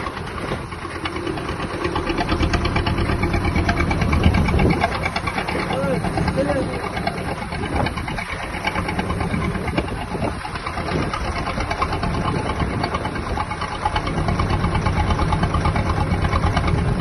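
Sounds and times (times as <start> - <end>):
engine knocking beat: 0.0 - 17.0.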